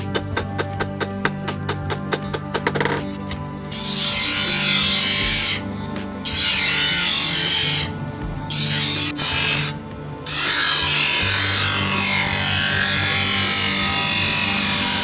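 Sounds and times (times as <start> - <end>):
rasping abrasive on steel blade: 0.0 - 15.0
steady low hum: 0.0 - 15.0.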